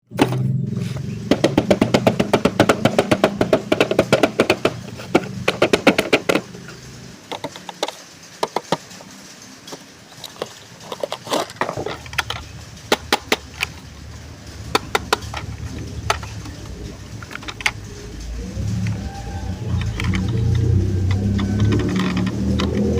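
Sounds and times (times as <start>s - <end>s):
plastic toy clicks and taps: 1.3s - 6.6s, 7.3s - 9.1s, 9.7s - 13.8s, 14.7s - 17.8s, 18.7s - 22.9s.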